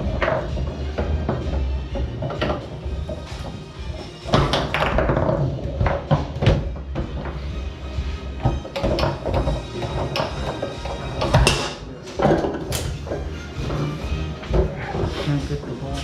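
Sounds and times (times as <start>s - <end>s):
foosball clacks and knocks: 0.0s - 7.5s, 8.4s - 13.8s.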